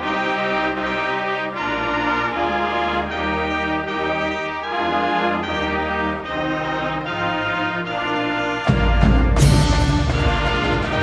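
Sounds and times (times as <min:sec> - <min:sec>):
slow orchestral music with brass: 0:00.0 - 0:11.0.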